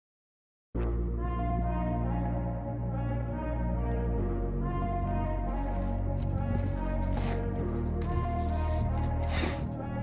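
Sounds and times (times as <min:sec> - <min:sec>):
background music with held tones: 0:00.8 - 0:10.0
steady deep bass: 0:00.8 - 0:10.0.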